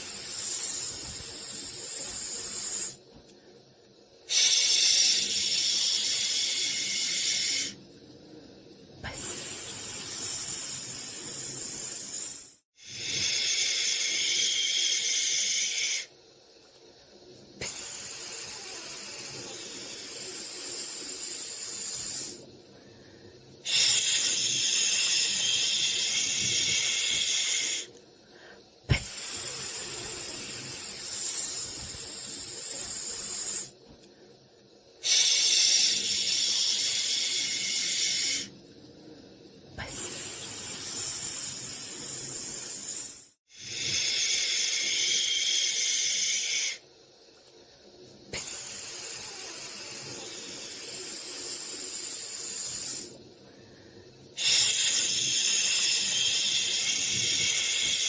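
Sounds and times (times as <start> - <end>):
white noise hiss: 0.0 - 58.0.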